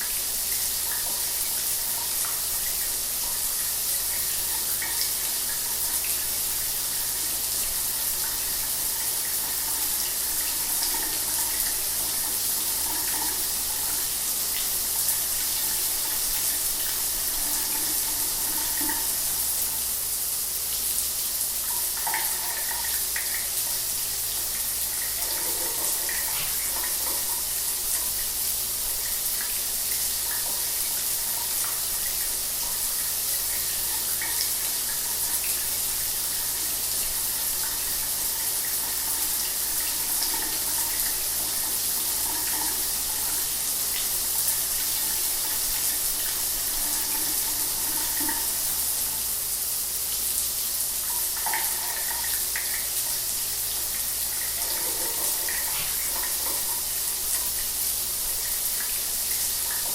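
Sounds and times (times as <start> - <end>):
shower water hissing: 0.0 - 59.9.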